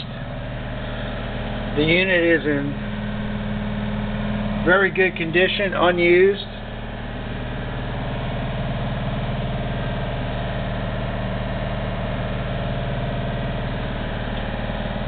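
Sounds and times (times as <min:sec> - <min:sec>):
drill press motor humming: 0:00.0 - 0:15.0.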